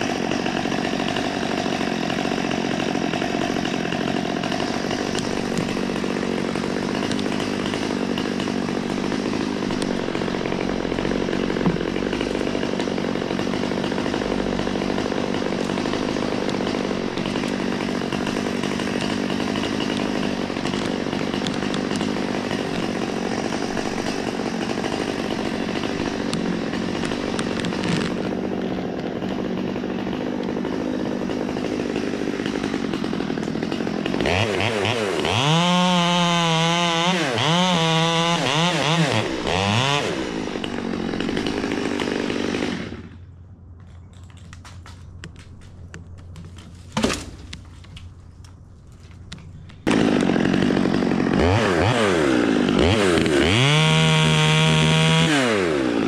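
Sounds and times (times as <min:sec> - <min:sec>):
chainsaw engine running: 0:00.0 - 0:43.3, 0:44.1 - 0:56.0.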